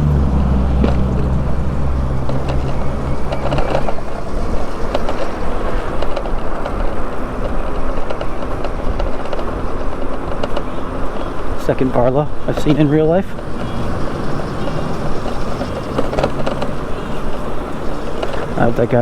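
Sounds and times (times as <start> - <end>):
low vehicle engine hum: 0.0 - 19.0
road noise: 0.0 - 19.0
wind rushing over microphone: 0.0 - 19.0.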